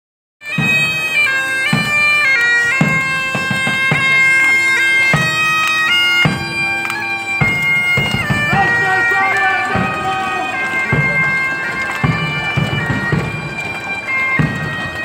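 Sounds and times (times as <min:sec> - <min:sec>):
bagpipe marching tune: 0:00.4 - 0:15.0
drum beating: 0:00.5 - 0:15.0.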